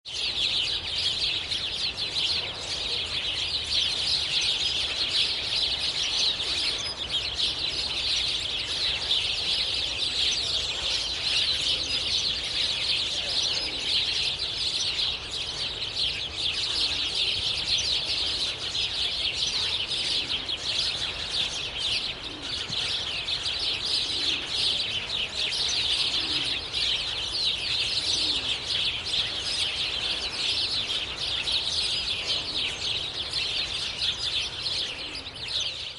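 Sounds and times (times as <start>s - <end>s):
flock of sparrows chirping: 0.0s - 35.9s.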